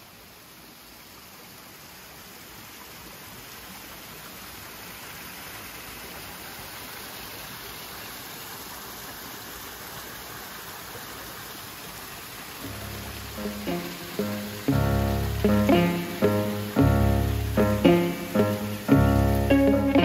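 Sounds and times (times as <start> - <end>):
stream splashing between boulders: 0.1 - 20.0.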